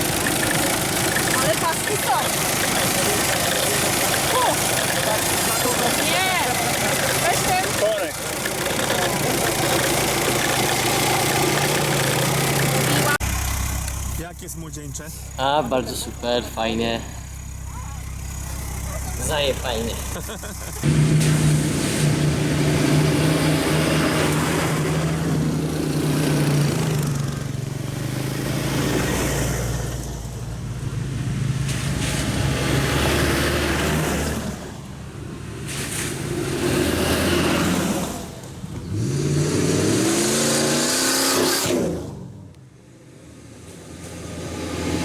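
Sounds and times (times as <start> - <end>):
off-road engine revving hard: 0.0 - 14.3, 15.3 - 45.0.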